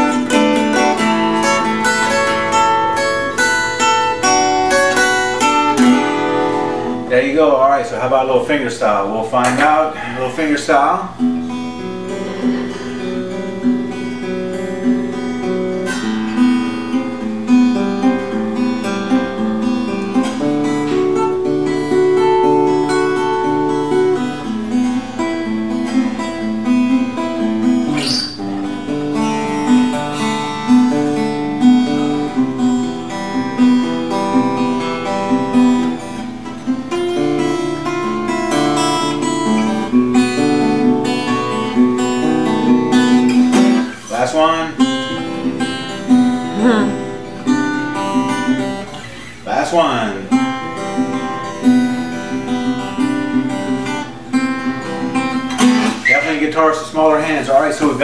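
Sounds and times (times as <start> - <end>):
fingerstyle acoustic guitar: 0.0 - 58.0.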